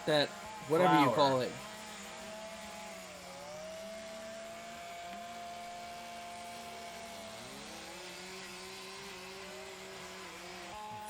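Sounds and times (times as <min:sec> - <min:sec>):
chainsaw engines at high revs: 0:00.0 - 0:11.0.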